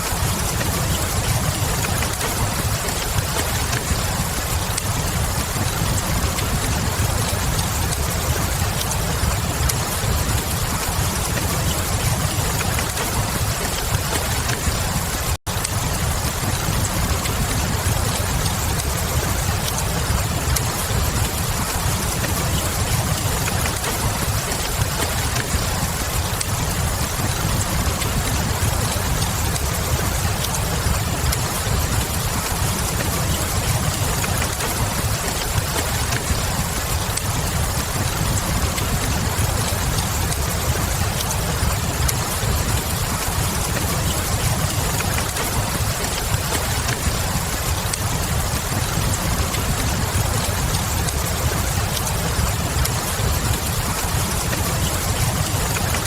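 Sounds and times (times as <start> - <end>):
fire crackles: 0.0 - 56.0
rain hissing: 0.0 - 56.0.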